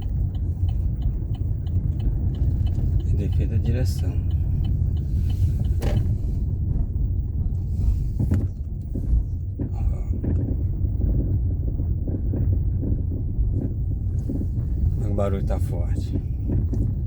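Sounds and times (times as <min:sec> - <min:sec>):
road and engine rumble: 0:00.0 - 0:17.0
steering knocks: 0:00.0 - 0:17.0.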